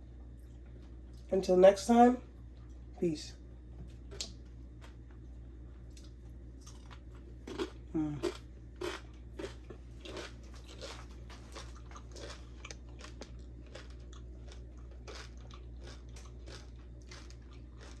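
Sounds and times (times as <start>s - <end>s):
crunchy chewing of fried food: 3.6s - 18.0s.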